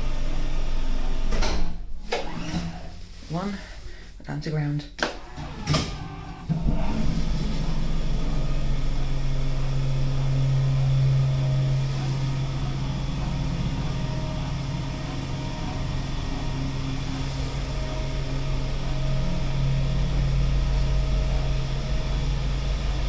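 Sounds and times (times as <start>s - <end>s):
lift motor humming: 0.0s - 3.3s, 5.1s - 23.0s.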